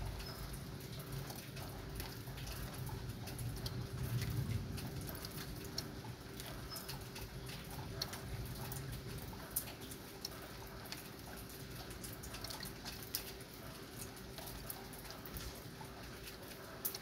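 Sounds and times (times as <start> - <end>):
raindrops ticking and dripping: 0.0 - 17.0
soft rain hiss: 0.0 - 17.0.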